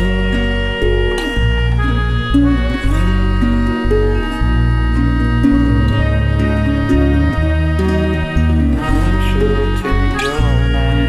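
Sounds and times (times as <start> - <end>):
guitar: 0.0 - 11.0
steady bass line: 0.0 - 11.0.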